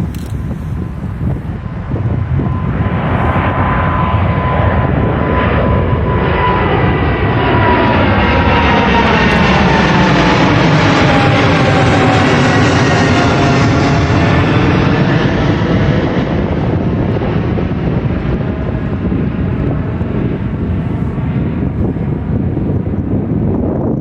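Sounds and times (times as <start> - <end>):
airliner engines passing overhead: 0.0 - 24.0.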